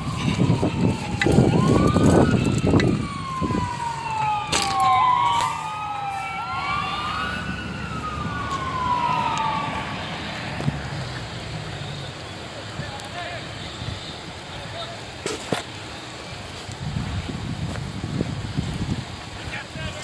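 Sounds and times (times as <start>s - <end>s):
emergency vehicle sirens wailing: 0.0s - 20.0s.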